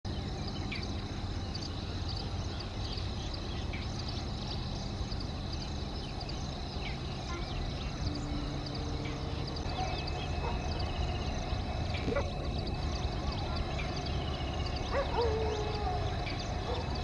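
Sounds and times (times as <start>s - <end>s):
birds chirping: 0.1s - 17.0s
diesel locomotive rumble: 0.1s - 17.0s
insect high drone: 0.1s - 17.0s.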